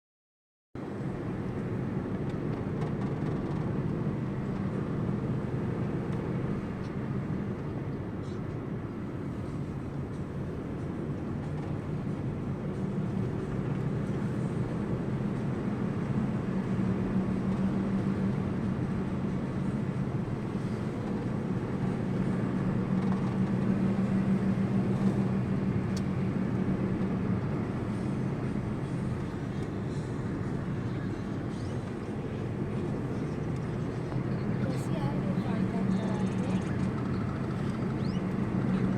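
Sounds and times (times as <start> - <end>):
vehicle engine droning: 0.8 - 38.9.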